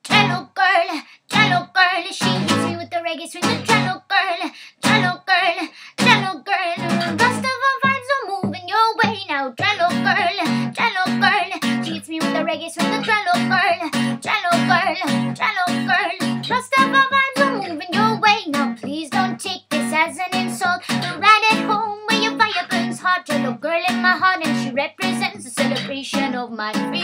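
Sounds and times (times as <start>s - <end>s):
woman singing: 0.0s - 27.0s
acoustic guitar strumming: 0.1s - 0.4s, 1.3s - 2.8s, 3.4s - 4.0s, 4.8s - 5.2s, 6.0s - 27.0s.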